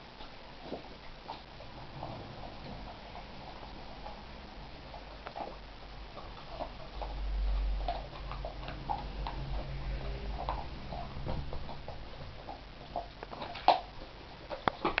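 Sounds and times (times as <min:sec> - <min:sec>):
dogs crunching bones: 0:00.0 - 0:15.0.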